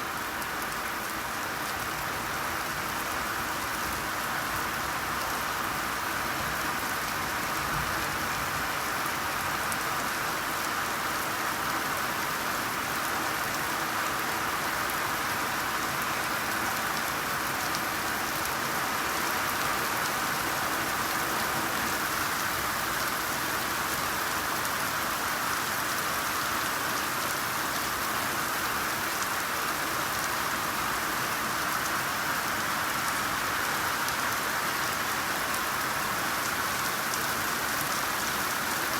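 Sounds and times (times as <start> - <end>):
rain pattering on a surface: 0.0 - 38.9
steady rainfall: 0.0 - 38.9.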